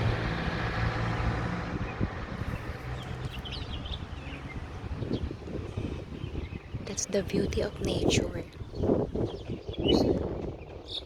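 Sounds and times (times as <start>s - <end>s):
vehicle engine humming: 0.0s - 9.5s.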